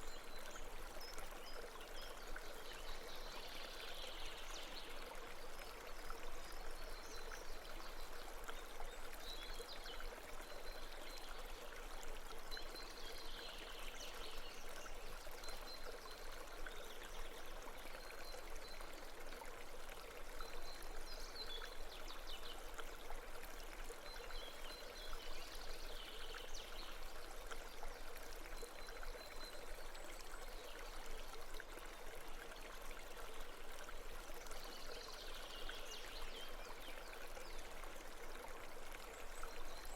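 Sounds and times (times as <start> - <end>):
babbling stream water: 0.0 - 39.9.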